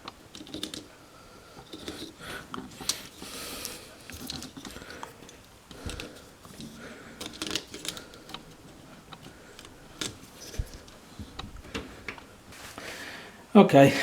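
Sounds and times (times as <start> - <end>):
hands handling machine parts: 0.0 - 13.0.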